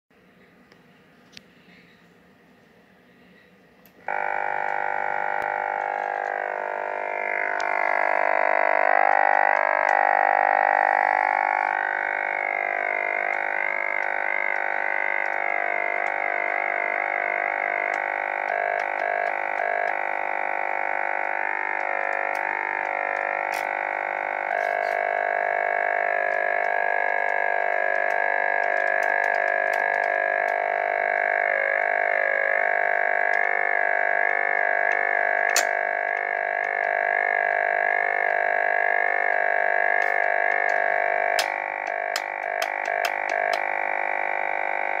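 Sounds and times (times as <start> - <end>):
buzzy drone of stacked tones: 4.0 - 45.0.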